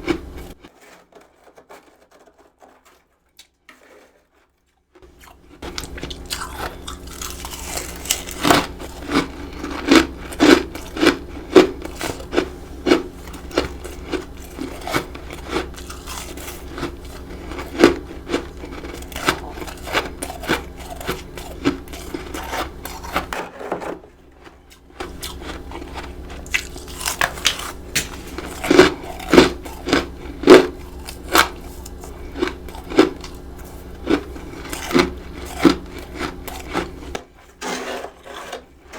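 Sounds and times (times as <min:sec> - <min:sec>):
crunching and chewing frost: 0:00.0 - 0:23.4, 0:24.0 - 0:38.9.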